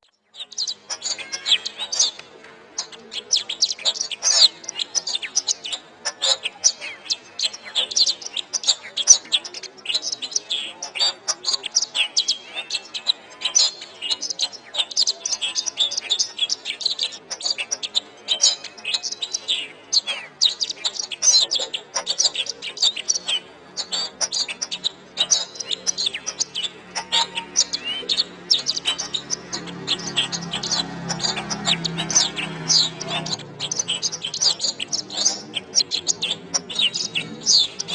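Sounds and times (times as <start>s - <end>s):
canary singing: 0.0s - 37.9s.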